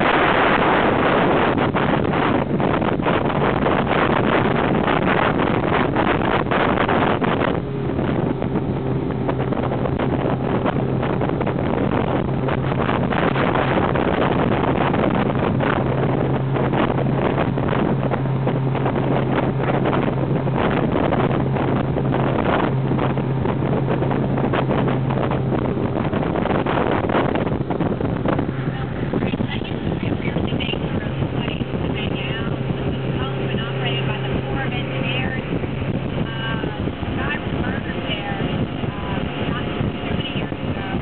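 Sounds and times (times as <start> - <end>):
motorboat engine running: 0.0 - 41.0
wind buffeting microphone: 0.0 - 41.0.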